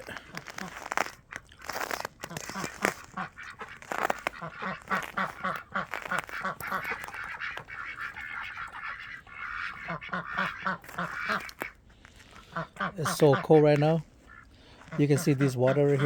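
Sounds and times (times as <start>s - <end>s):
ducks calling: 0.0s - 16.0s.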